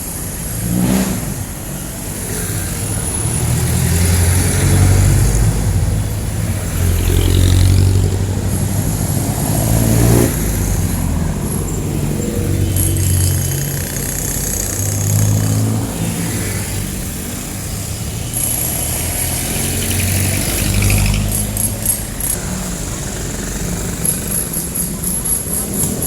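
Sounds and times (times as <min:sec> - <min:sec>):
diesel engines in traffic: 0:00.0 - 0:26.0.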